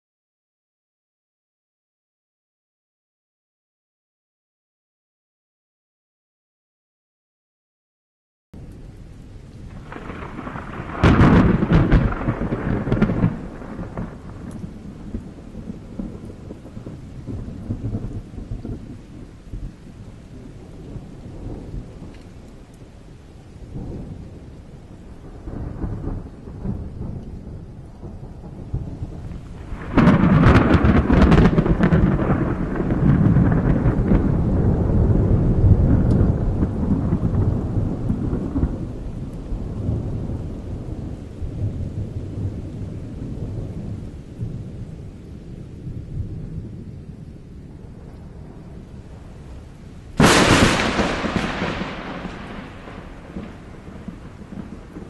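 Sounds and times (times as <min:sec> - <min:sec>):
steady rain: 0:08.6 - 0:55.0
thunder rumbling: 0:08.6 - 0:55.0
sharp crack of close thunder: 0:09.6 - 0:22.9, 0:23.6 - 0:55.0.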